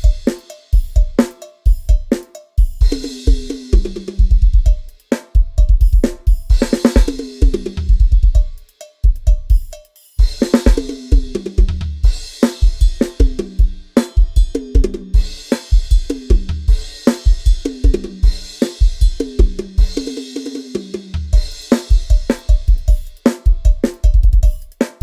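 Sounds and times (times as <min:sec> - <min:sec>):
drum kit playing a groove: 0:00.0 - 0:25.0.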